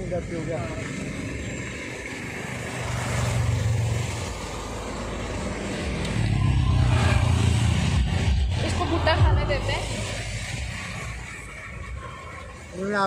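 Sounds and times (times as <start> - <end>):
vehicles passing on a road: 0.0 - 13.0.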